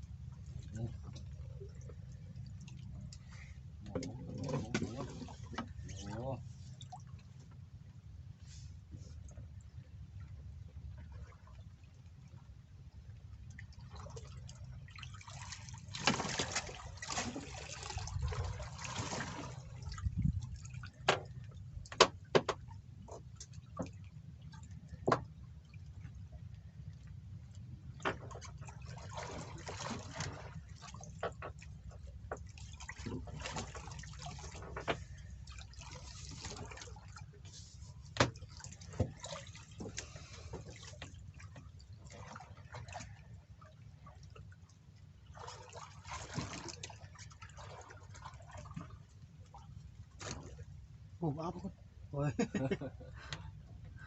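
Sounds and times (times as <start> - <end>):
water sloshing and dripping: 0.0 - 54.0.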